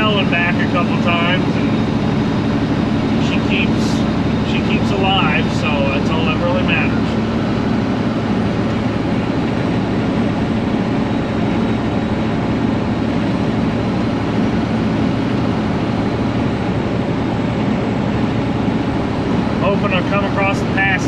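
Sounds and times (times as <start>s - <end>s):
road noise: 0.0s - 21.0s
truck engine drone: 0.0s - 21.0s.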